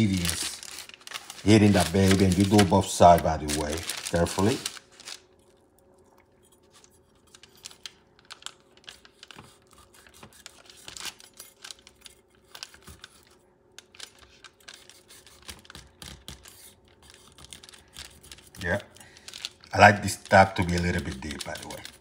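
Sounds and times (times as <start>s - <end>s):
paper crinkling: 0.0s - 5.6s, 6.6s - 22.0s
faint steady hum: 0.0s - 22.0s.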